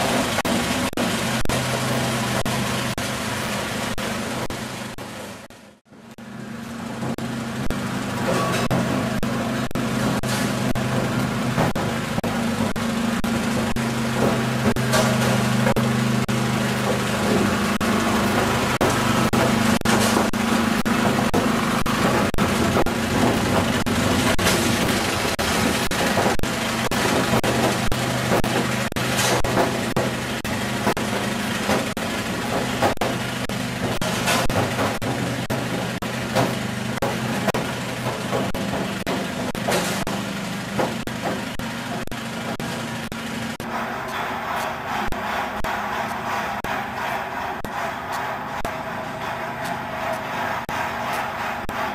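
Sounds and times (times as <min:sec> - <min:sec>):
constant noisy rush: 0:00.0 - 0:51.9
crop chopper motor hum: 0:00.0 - 0:51.9.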